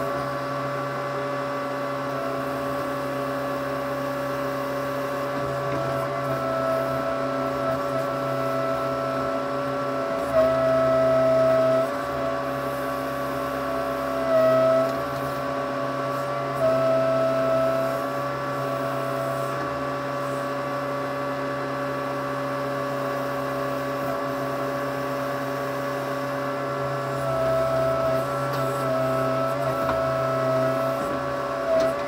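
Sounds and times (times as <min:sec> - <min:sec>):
backhoe engine running: 0:00.0 - 0:32.0
hydraulic whine: 0:00.0 - 0:32.0.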